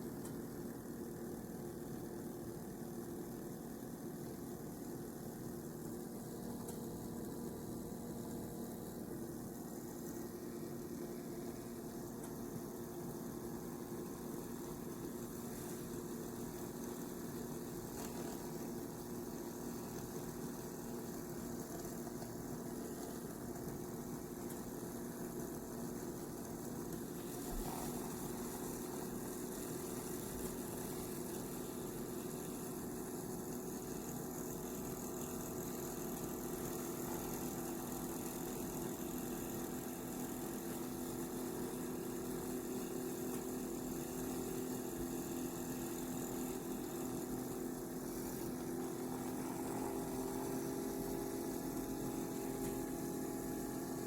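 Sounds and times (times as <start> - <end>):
coffee maker humming: 0.0 - 54.0.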